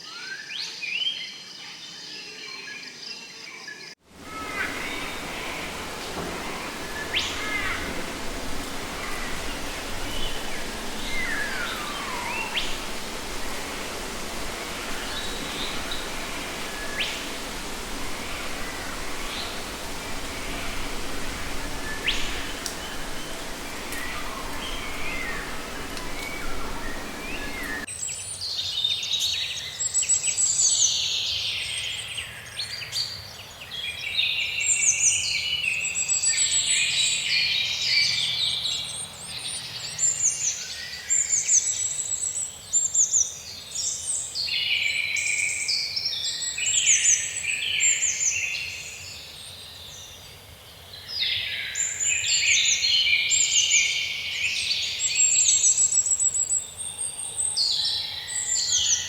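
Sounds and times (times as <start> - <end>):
birds chirping and trilling: 0.0 - 50.2.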